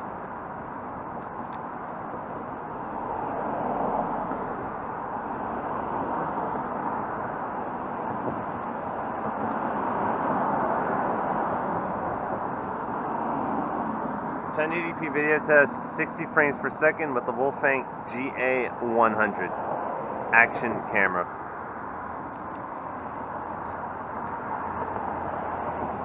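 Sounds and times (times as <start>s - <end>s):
cars passing on street: 0.0s - 26.0s.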